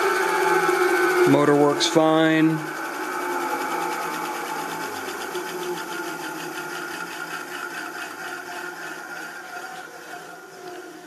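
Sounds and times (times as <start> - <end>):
motor hum: 0.0 - 11.0
wheel whirring with fast ticking: 0.0 - 11.0.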